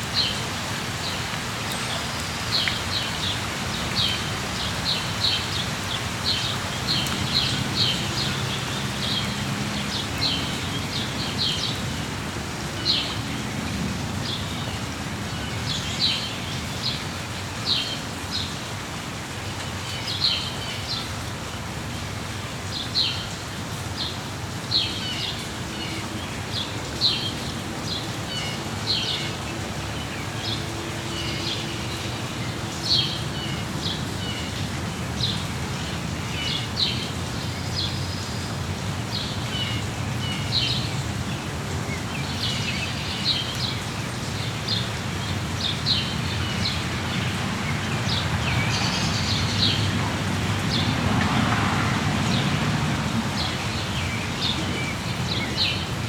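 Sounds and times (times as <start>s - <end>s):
songbirds chirping: 0.0s - 56.0s
steady rain: 0.0s - 56.0s.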